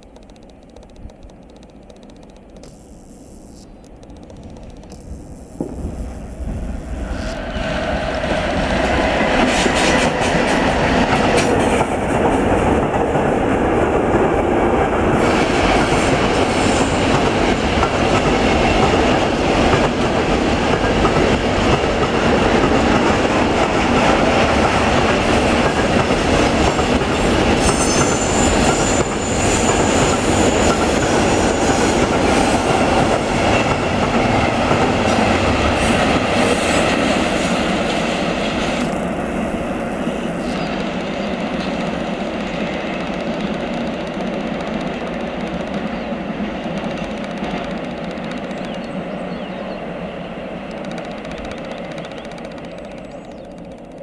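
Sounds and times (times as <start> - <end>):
rail joint clicks: 0.0 - 7.7, 8.5 - 49.6, 50.6 - 54.0
train wheels rumbling on rail: 4.0 - 54.0.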